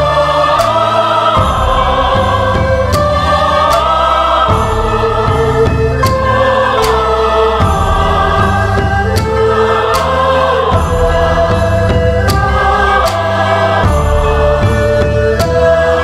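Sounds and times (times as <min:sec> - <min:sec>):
sustained bass tones: 0:00.0 - 0:16.0.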